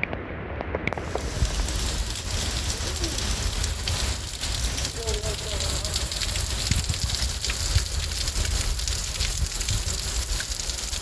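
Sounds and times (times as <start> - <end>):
low rumble: 0.9 - 11.0
steady rain falling: 0.9 - 11.0.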